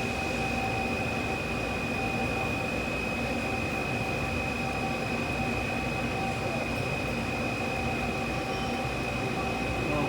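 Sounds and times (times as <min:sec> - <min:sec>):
machine spindle high whine: 0:00.0 - 0:10.0.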